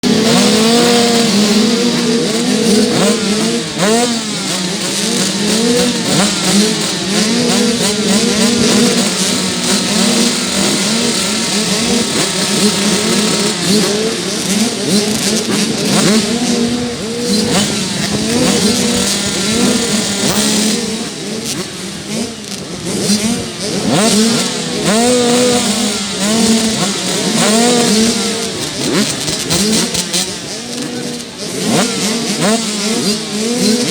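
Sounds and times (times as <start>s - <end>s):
dirt bike engine shifting gears: 0.0s - 33.9s
dirt bike engines revving: 0.0s - 33.9s.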